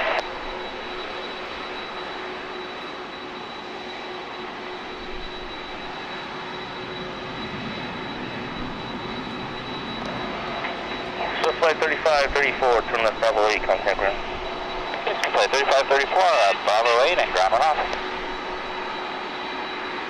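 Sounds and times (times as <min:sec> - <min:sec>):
distant jet engines rushing: 0:00.0 - 0:20.0.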